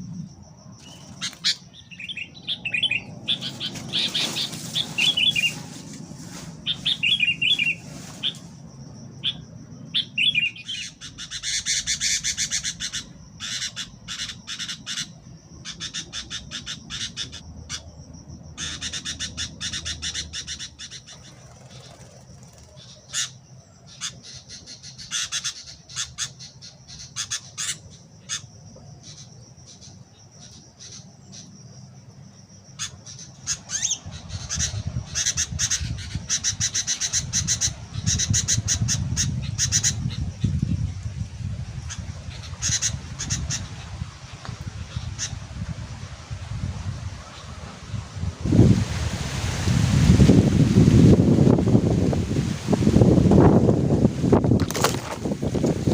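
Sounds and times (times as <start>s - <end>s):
low rumble of wind: 0.0s - 55.9s
birds chattering and squawking: 0.4s - 48.1s.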